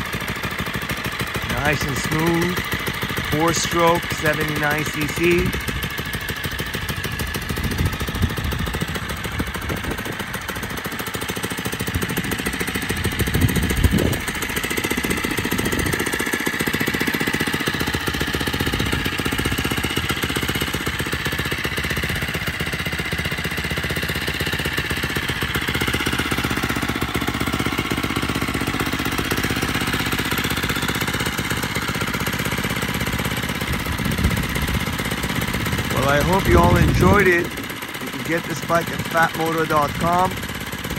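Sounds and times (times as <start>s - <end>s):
small engine idling: 0.0s - 40.9s.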